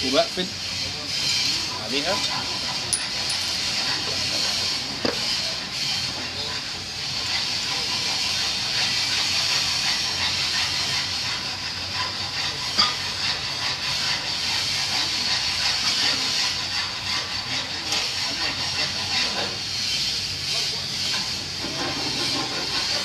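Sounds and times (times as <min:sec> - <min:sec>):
gas hissing into pipe: 0:00.0 - 0:23.0.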